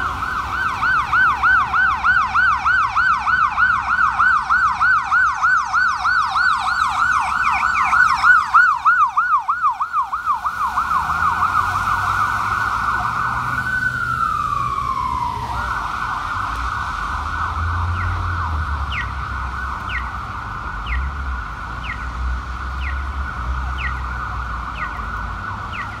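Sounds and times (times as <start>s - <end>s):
emergency vehicle sirens: 0.0s - 26.0s.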